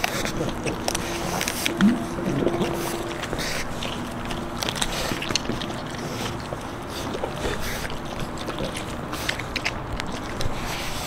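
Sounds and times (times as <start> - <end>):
outdoor rumble: 0.0 - 10.2
puppies chewing meat and bones: 0.0 - 11.0.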